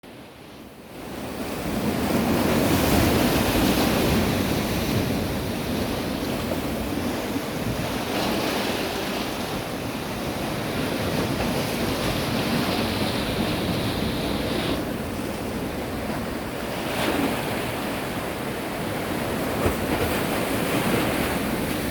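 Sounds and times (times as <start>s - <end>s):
sea waves washing: 1.2s - 21.9s
wind buffeting microphone: 1.2s - 21.9s.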